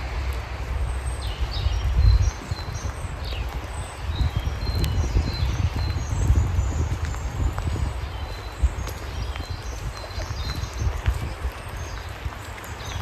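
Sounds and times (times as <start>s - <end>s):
rain hiss: 0.0s - 13.0s
songbirds chirping: 0.0s - 13.0s.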